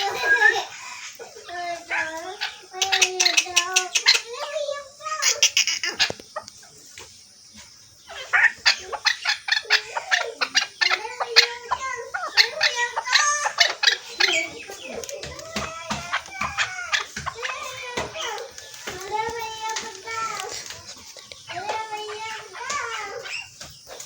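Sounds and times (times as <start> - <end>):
partridge clucking calls: 0.0 - 24.0.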